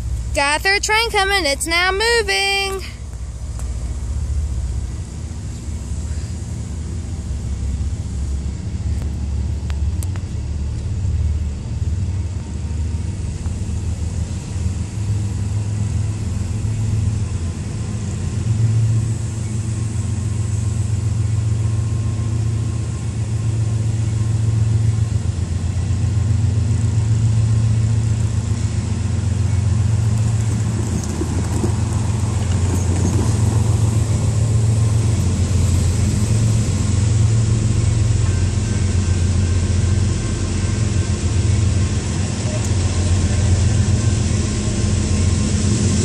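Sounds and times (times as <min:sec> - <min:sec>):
low engine rumble: 0:00.0 - 0:46.0.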